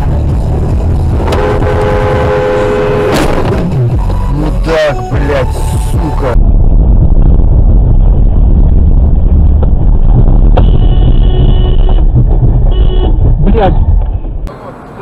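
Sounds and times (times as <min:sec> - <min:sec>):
car driving low rumble: 0:00.0 - 0:15.0.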